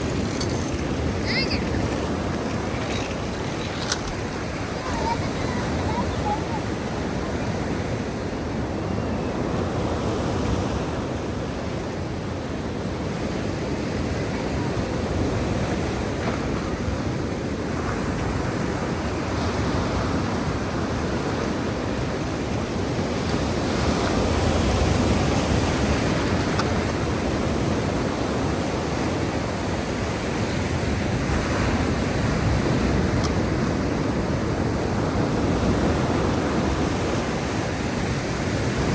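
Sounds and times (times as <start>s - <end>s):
waves washing in: 0.0s - 38.9s.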